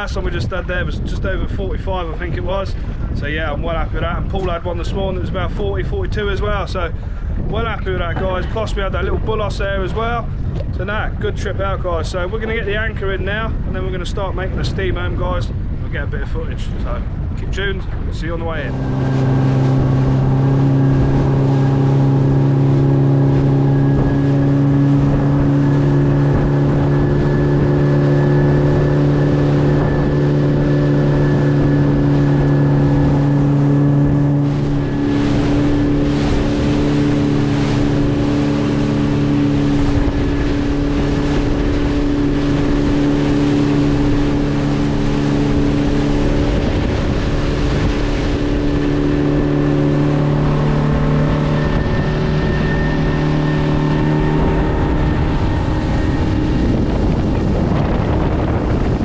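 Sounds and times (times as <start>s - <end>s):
outboard motor drone: 0.0s - 59.0s
water rushing along hull: 0.0s - 59.0s.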